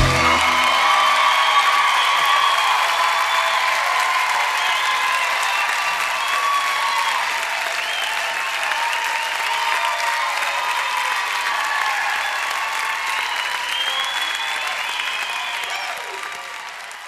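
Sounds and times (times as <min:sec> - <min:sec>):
audience applause: 0:00.0 - 0:17.0.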